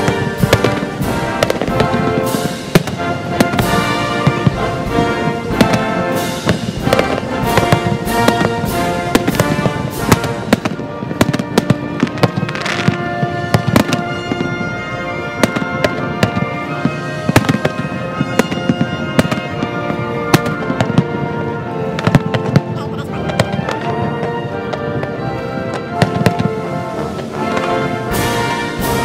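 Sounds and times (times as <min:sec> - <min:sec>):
fireworks bursting: 0:00.0 - 0:29.0
steady music: 0:00.0 - 0:29.0.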